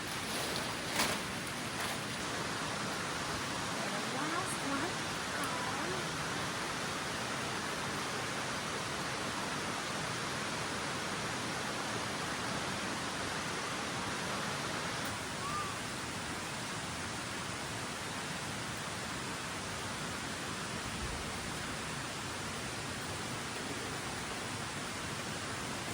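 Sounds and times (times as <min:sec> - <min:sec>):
creek water rushing: 0:00.0 - 0:25.9.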